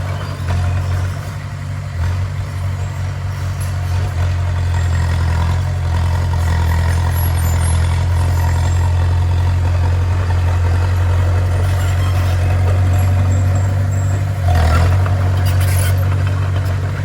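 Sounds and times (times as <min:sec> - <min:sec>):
bulldozer diesel engine humming: 0:00.0 - 0:17.0.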